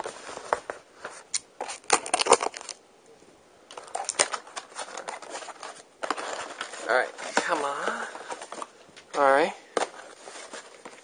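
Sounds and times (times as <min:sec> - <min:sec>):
box packing crinkling and scraping: 0:00.0 - 0:02.7, 0:03.7 - 0:11.0.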